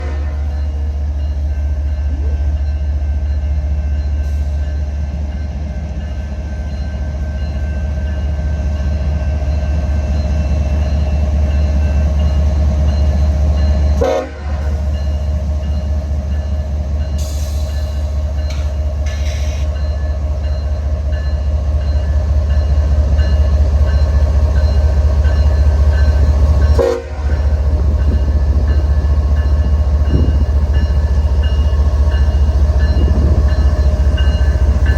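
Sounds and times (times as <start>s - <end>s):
diesel locomotives rumbling: 0.0s - 34.9s.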